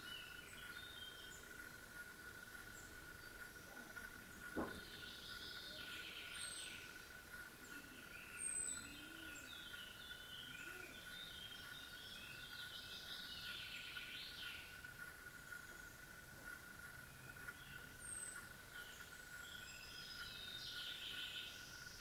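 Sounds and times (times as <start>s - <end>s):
faint birdsong: 0.0s - 22.0s.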